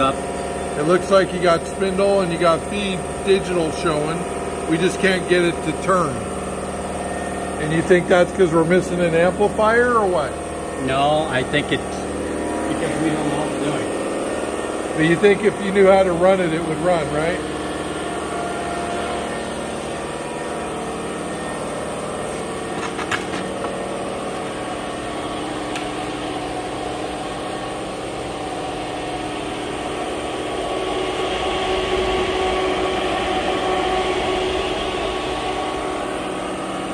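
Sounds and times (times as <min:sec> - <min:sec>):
machine pump and fans humming: 0:00.0 - 0:36.9.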